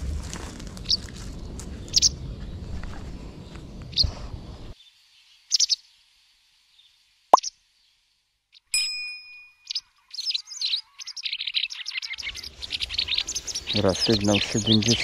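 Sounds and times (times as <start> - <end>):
small birds chirping: 0.8 - 6.0, 6.7 - 8.7, 9.5 - 15.0.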